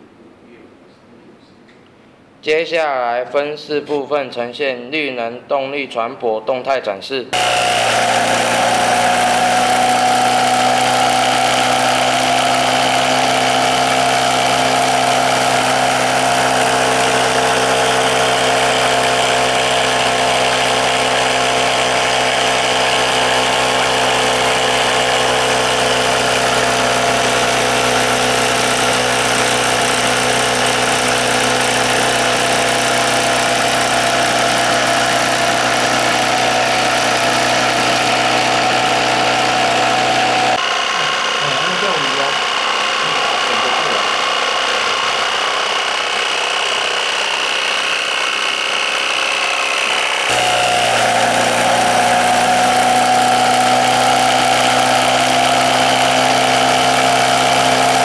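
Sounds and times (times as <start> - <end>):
small model engine running: 7.4 - 58.0.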